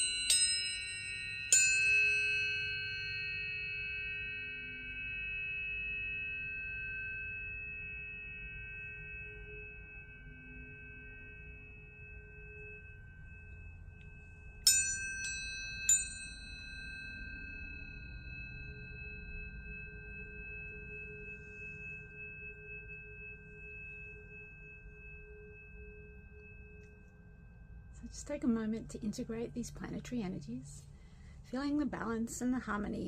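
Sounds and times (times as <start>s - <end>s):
tuning forks ringing: 0.0s - 33.0s.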